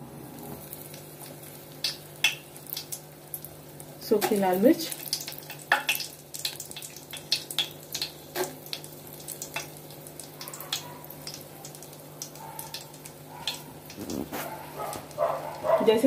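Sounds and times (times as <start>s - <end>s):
chillies sizzling in oil: 0.0s - 16.0s.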